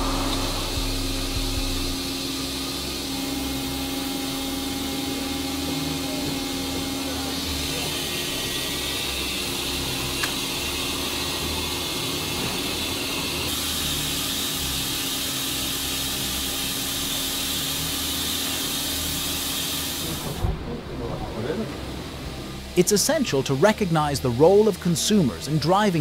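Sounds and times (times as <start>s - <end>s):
rolling mill machinery hiss and hum: 0.0s - 26.0s.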